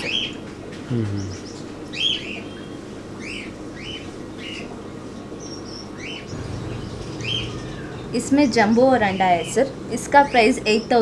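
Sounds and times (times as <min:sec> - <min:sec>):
caged birds chirping: 0:00.0 - 0:11.0
steady low hum: 0:00.6 - 0:11.0.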